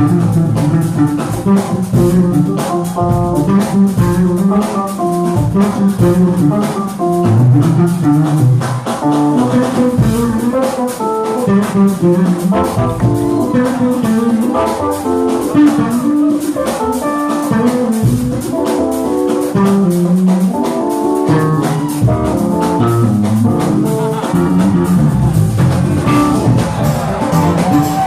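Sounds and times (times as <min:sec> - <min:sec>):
bass: 0:00.0 - 0:28.0
drum kit: 0:00.0 - 0:28.0
guitar melody: 0:00.0 - 0:28.0.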